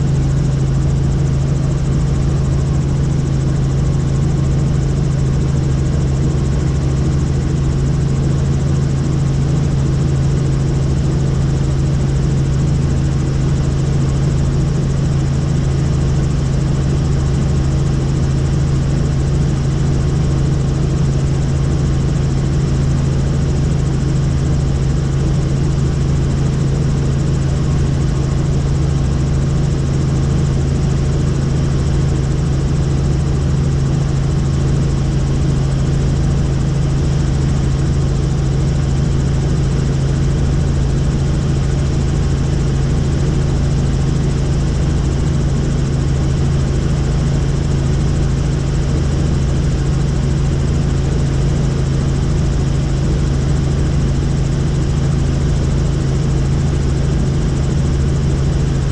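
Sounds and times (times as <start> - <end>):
helicopter rotor and engine drone: 0.0 - 58.9.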